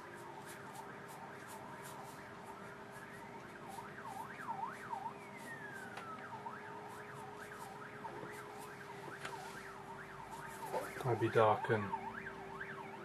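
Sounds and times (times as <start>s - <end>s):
faint siren sweeping in pitch: 0.0s - 13.0s.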